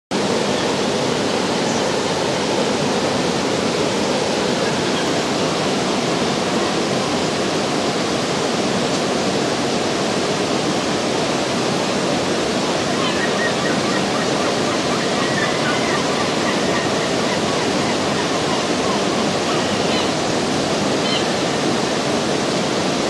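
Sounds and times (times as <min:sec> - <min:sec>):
river water rushing: 0:00.1 - 0:23.0.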